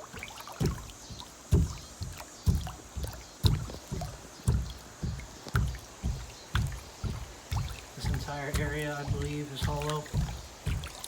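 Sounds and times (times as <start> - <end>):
hollow footsteps on pool floor: 0.0 - 11.0.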